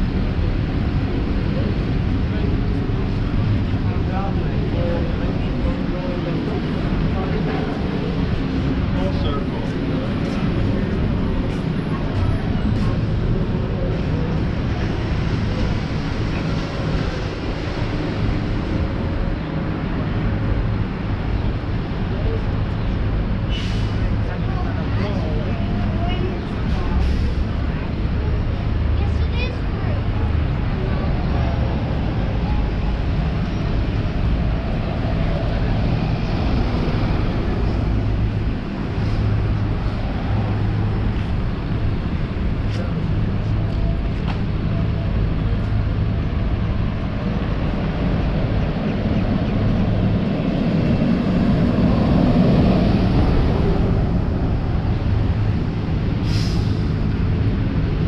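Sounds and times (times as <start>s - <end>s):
street ambience low rumble: 0.0s - 58.0s
traffic noise: 0.0s - 58.0s
vehicle engine humming: 0.0s - 58.0s.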